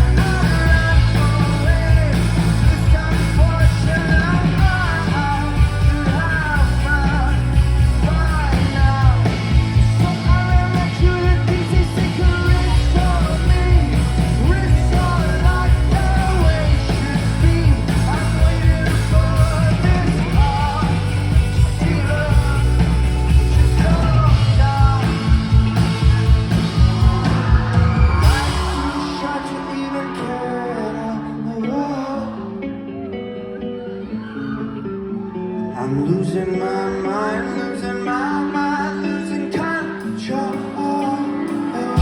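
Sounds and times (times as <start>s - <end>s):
lead vocals singing: 0.0s - 33.2s, 35.6s - 42.0s
live rock band: 0.0s - 42.0s.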